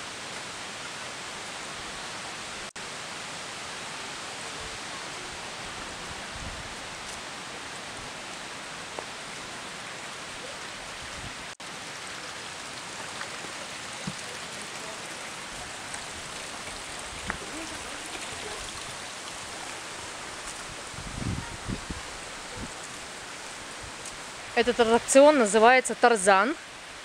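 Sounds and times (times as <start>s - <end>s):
river rushing over rocks: 0.0s - 27.0s.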